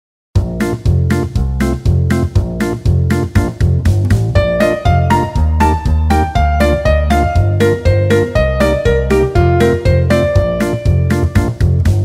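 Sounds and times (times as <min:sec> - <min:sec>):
background music with struck chords: 0:00.4 - 0:12.0
low bass: 0:00.4 - 0:12.0.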